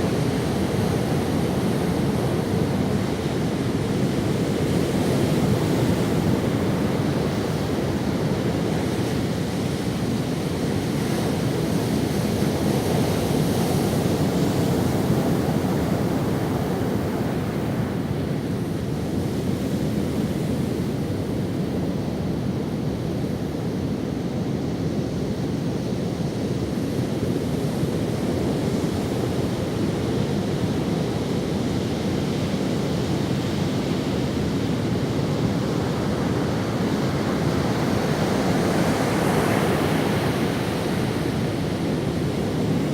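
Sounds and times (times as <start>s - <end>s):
ocean waves on sandy beach: 0.0s - 42.9s.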